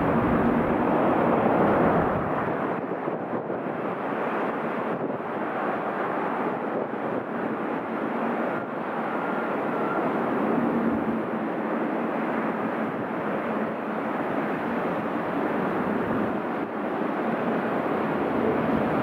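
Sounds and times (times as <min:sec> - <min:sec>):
distant jet engines at takeoff: 0:00.0 - 0:19.0.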